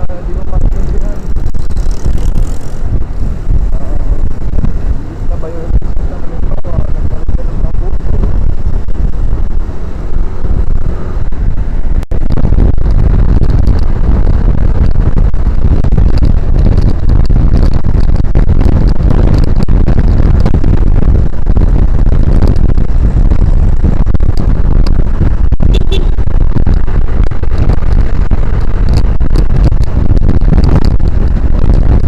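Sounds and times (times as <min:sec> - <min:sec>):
motorcycle engine: 0:00.0 - 0:32.0
wind rush: 0:00.0 - 0:32.0.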